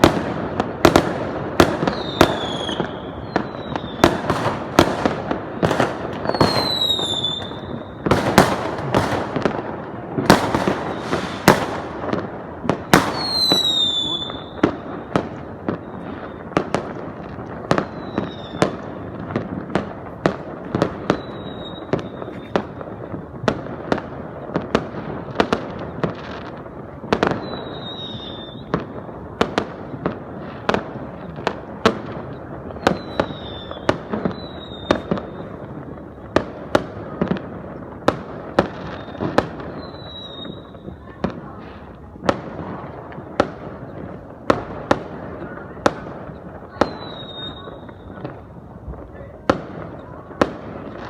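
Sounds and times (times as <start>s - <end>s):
fireworks bangs: 0.0s - 51.0s.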